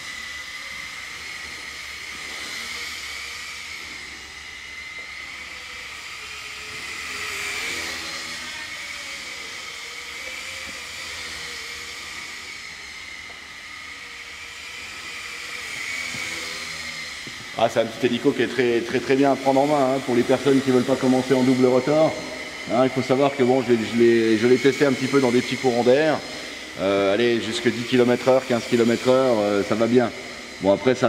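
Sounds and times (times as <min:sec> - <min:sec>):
rc helicopter motor whine: 0:00.0 - 0:31.0.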